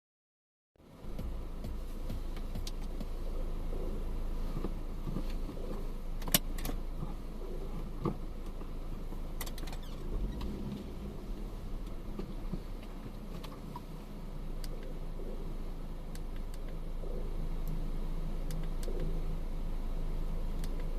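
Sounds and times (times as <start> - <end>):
car road and engine rumble: 0.8 - 20.9.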